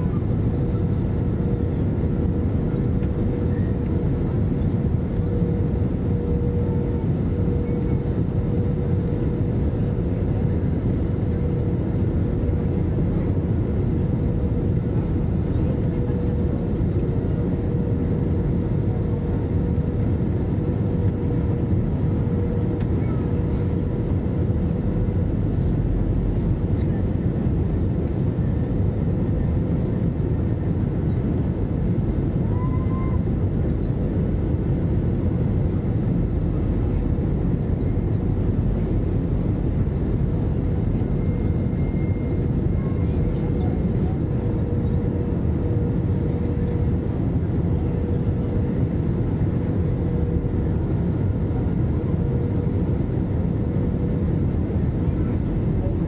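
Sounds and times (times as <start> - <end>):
jet engines and airflow rumble: 0.0 - 56.0.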